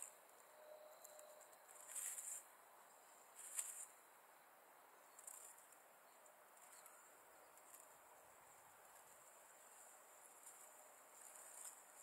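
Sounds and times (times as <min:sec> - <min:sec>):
dry reeds crackling and rustling: 0:00.0 - 0:04.1, 0:05.0 - 0:12.0.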